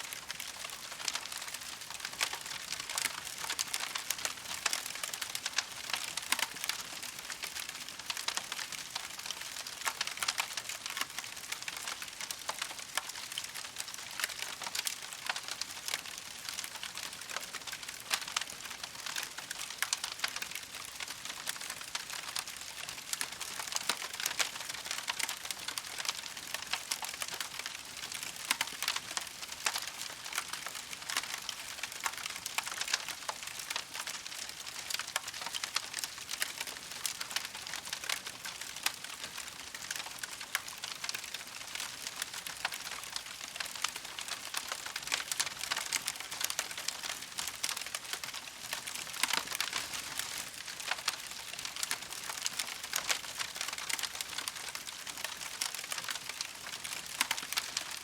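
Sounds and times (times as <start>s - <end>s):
campfire crackling and popping: 0.1s - 58.0s.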